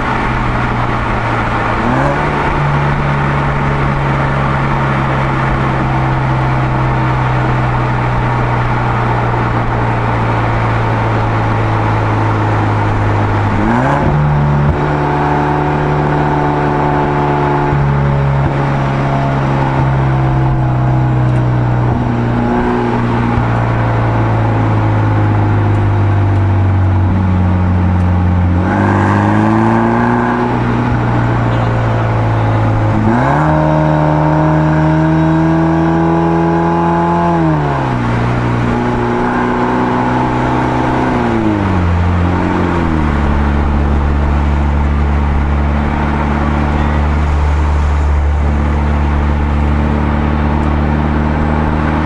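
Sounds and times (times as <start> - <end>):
car exhaust note: 0.0 - 52.0.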